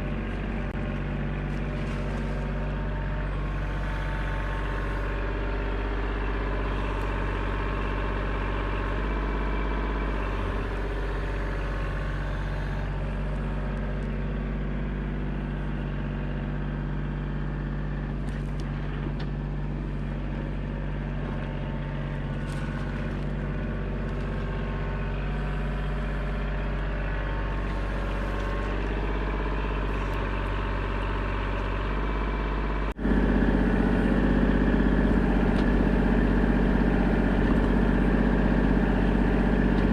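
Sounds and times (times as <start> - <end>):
digging machine engine running: 0.0 - 39.9.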